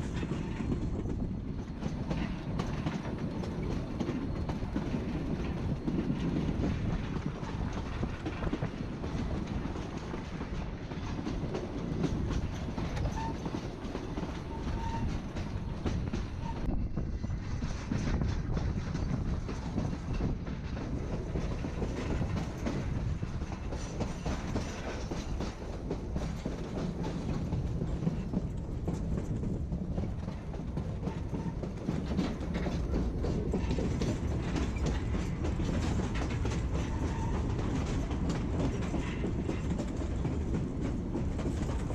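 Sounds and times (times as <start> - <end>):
wheels clicking over rail joints: 0.0 - 16.8, 17.6 - 41.9
train rumbling on track: 0.0 - 41.9.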